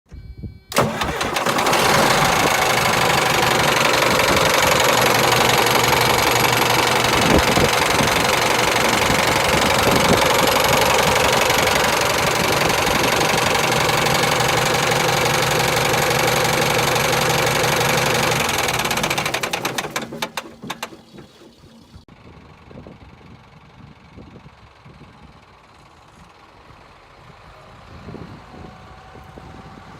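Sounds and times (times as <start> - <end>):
diesel truck engine running: 0.7 - 29.9.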